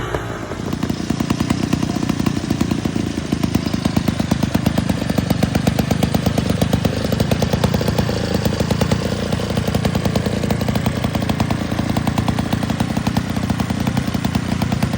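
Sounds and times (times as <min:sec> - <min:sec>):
chainsaw engine running: 0:00.0 - 0:14.9.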